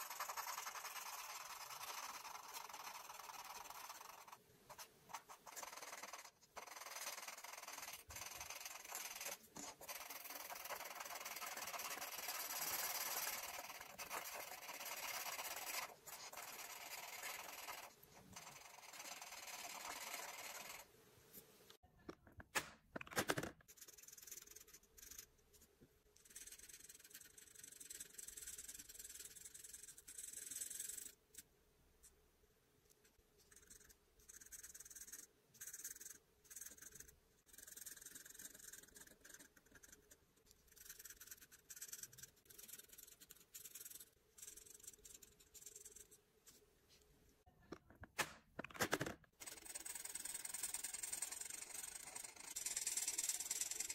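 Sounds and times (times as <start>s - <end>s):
marker scratching on paper: 0.0s - 20.9s, 23.4s - 31.4s, 33.4s - 46.6s, 49.0s - 53.9s.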